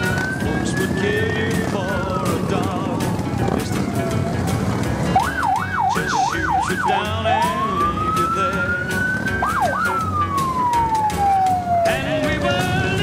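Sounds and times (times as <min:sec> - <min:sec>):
motorcycles rumbling: 0:00.0 - 0:13.0
siren wailing: 0:00.0 - 0:13.0.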